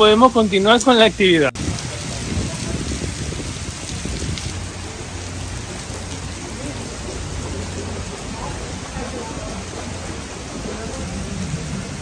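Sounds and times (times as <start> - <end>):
torrential rain pouring: 0.0 - 12.0.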